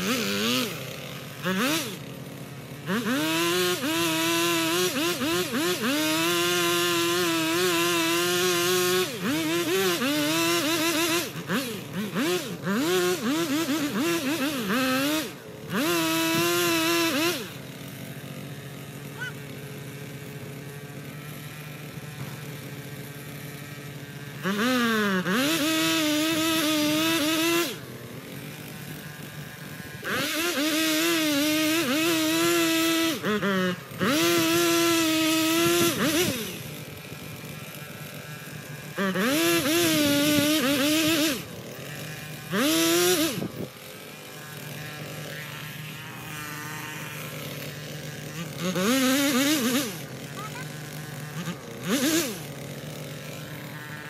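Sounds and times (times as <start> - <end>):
chainsaw cutting tree trunk: 0.0 - 54.0
chainsaw idling and revving: 0.0 - 54.0.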